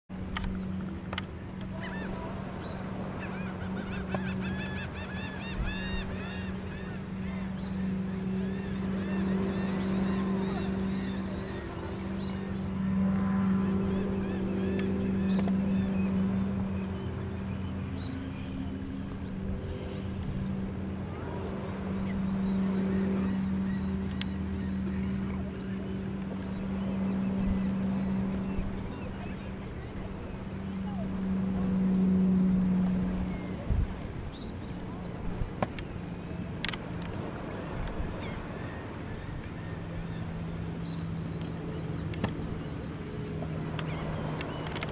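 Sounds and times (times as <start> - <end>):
low engine drone: 0.1 - 44.9
low hum: 0.1 - 44.9.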